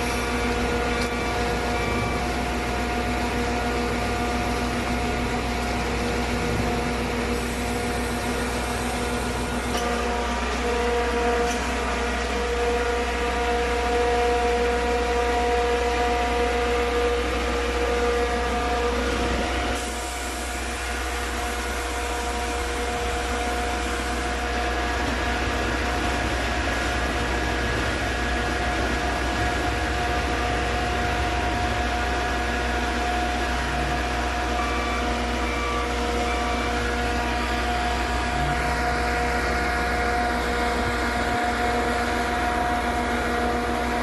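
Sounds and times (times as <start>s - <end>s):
concrete mixer pump engine hum: 0.0s - 44.0s
steady machine whine: 0.0s - 44.0s.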